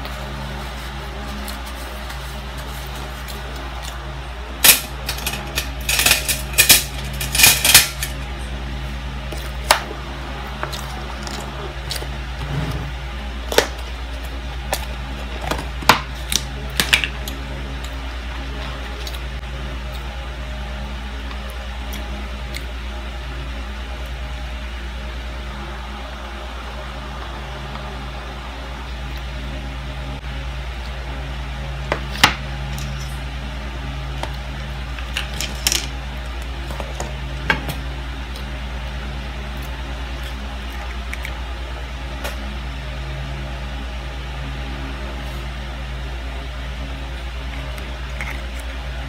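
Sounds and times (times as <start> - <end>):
low hum of fan: 0.0 - 49.0.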